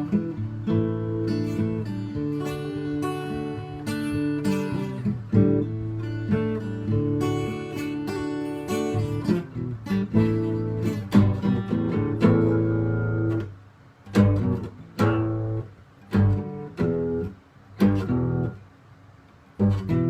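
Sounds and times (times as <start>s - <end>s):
acoustic guitar strumming chords: 0.0s - 18.7s, 19.4s - 20.0s.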